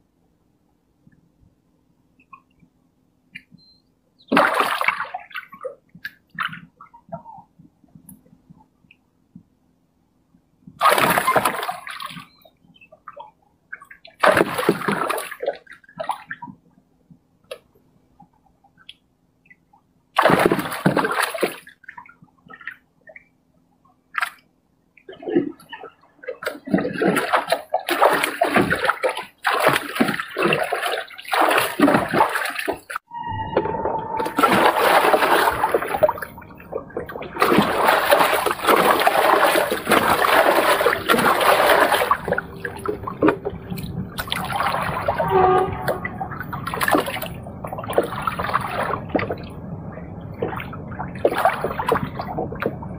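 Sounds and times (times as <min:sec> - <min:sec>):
water splashing and sloshing: 0:03.4 - 0:09.5, 0:10.6 - 0:52.9.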